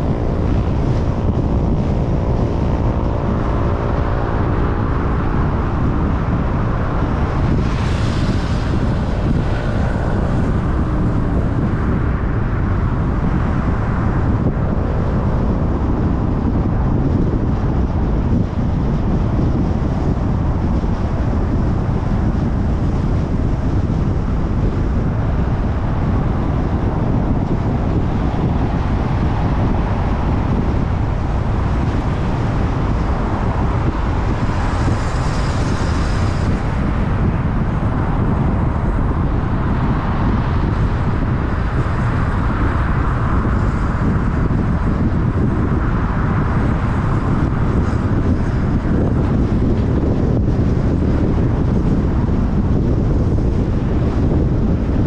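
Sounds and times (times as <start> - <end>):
car road and wind noise: 0.0 - 55.0.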